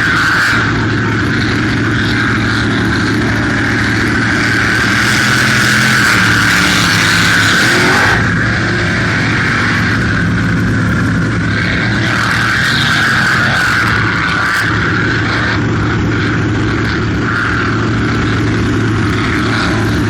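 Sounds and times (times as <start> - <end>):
boat racing engine drone: 0.0 - 20.0.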